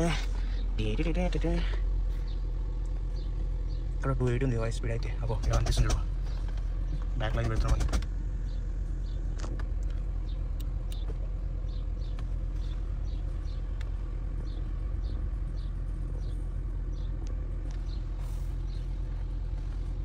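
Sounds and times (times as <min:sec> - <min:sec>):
car engine hum in cabin: 0:00.0 - 0:20.0.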